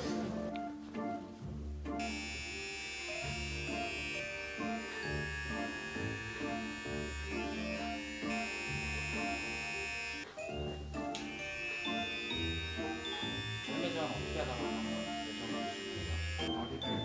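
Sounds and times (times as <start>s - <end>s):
hair clippers buzzing: 2.0s - 10.3s, 11.0s - 16.6s.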